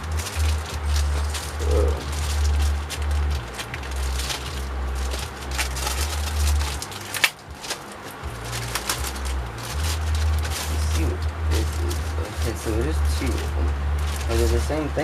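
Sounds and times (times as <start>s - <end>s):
low steady drone: 0.0s - 15.0s
packaging rustling: 0.0s - 15.0s.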